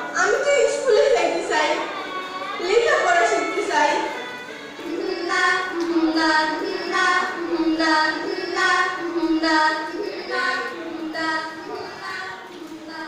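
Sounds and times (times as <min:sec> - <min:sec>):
girls singing a chant: 0:00.0 - 0:13.0.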